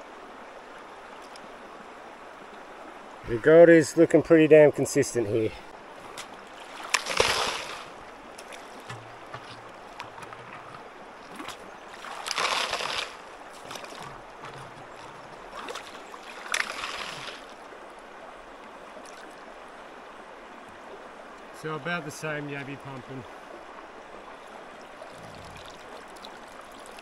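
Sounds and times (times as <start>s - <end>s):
creek water running: 0.0s - 27.0s.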